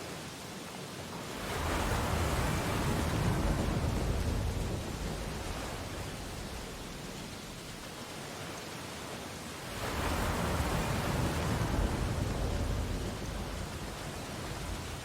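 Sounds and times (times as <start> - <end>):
ocean wave breaking on beach: 1.0 - 15.0.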